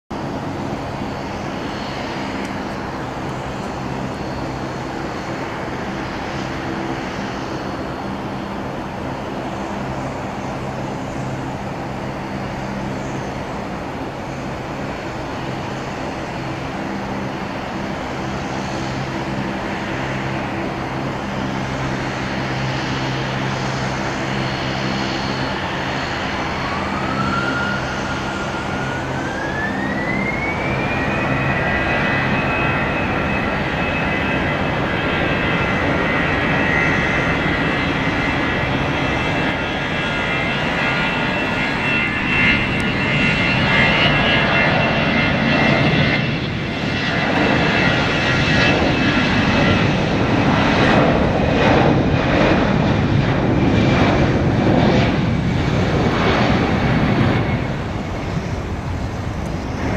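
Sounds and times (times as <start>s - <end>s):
jet engine whine: 0.0s - 59.9s
jet engines humming: 0.1s - 59.9s.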